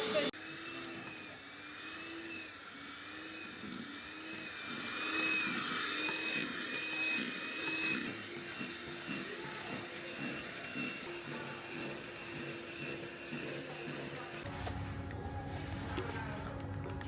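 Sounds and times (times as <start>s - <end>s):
electric mixer motor whine: 0.0s - 15.4s.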